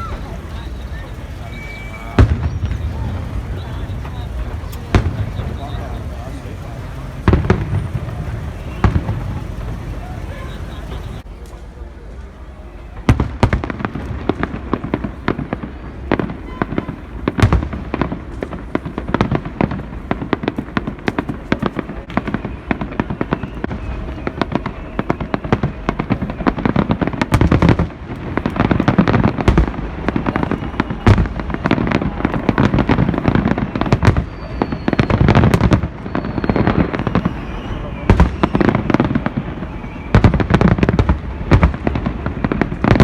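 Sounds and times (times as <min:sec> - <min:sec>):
heavy firework booms: 0:00.0 - 0:11.3, 0:12.8 - 0:43.0
fireworks crackling: 0:00.0 - 0:43.0.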